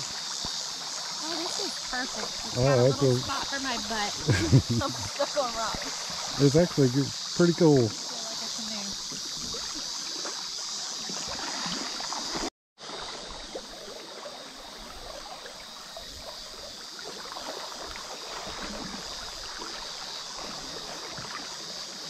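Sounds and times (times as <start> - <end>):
river water running over rocks: 0.0 - 22.0.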